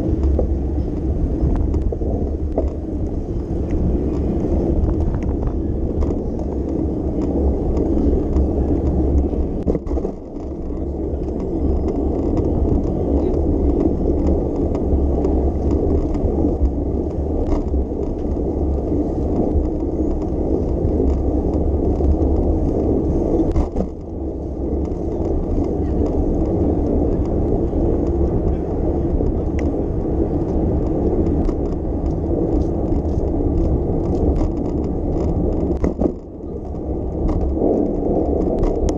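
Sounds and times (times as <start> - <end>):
street sounds: 0.0 - 38.9
wind and tyre noise: 0.0 - 38.9.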